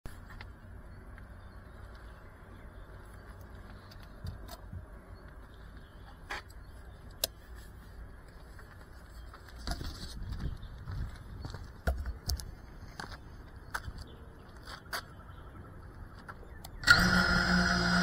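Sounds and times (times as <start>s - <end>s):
low traffic rumble: 0.1s - 18.0s.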